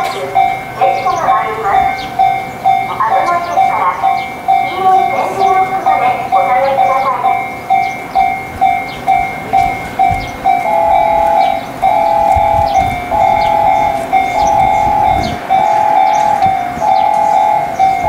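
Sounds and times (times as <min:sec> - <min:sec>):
electronic railway warning beeps: 0:00.0 - 0:18.0
train rumbling: 0:00.0 - 0:18.0.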